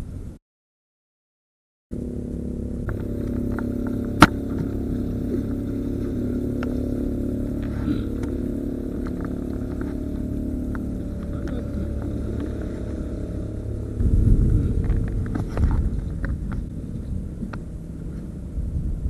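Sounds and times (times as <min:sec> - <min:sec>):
low engine-like drone: 0:01.9 - 0:19.0.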